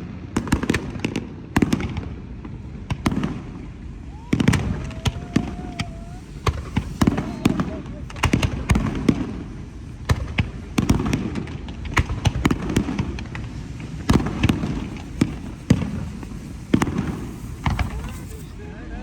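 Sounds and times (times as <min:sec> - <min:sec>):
firework shells bursting: 0:02.8 - 0:18.6.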